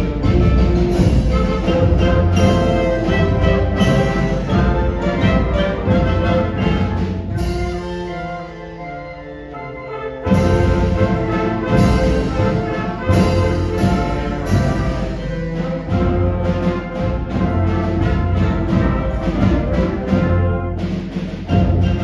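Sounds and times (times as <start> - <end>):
concert band playing: 0.0 - 22.0.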